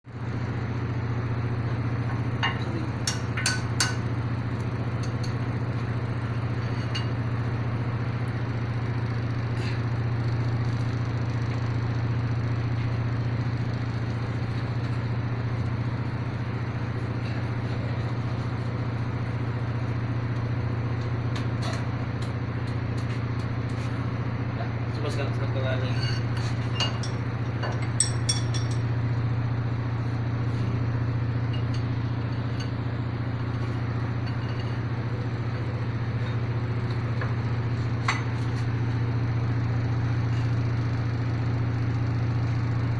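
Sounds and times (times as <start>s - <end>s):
low machine drone: 0.1s - 42.9s.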